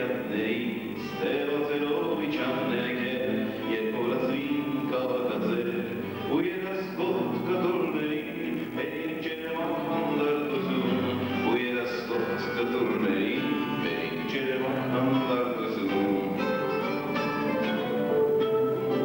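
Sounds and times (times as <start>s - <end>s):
man singing into microphone: 0.0s - 16.9s
classical guitar strumming: 0.0s - 19.0s.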